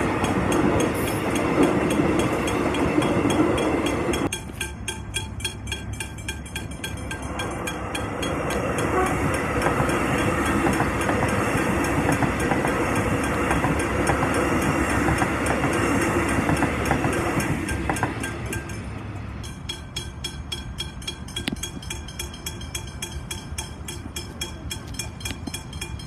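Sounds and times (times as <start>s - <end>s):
level crossing bells ringing: 0.0s - 14.0s, 17.4s - 26.0s
electric train passing: 0.0s - 26.0s.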